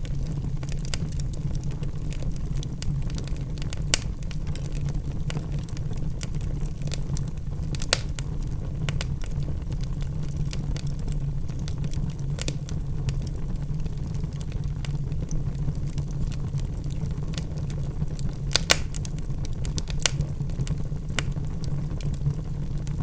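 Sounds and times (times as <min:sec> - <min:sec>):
logs crackling in a fireplace: 0:00.0 - 0:23.0
low fire rumble: 0:00.0 - 0:23.0.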